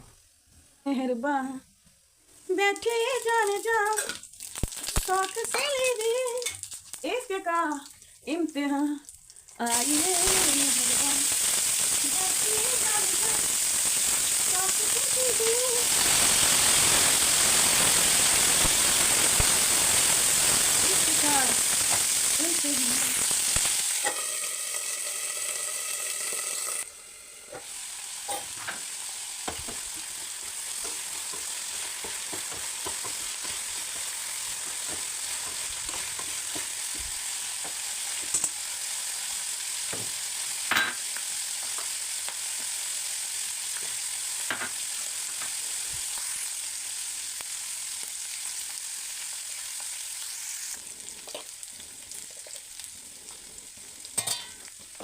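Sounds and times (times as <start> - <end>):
food sizzling in hot oil: 2.4 - 55.0.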